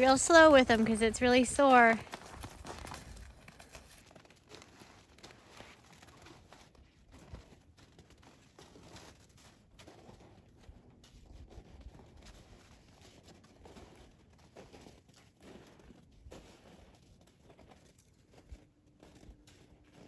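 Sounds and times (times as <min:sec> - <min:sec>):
soft patter: 0:00.0 - 0:20.0.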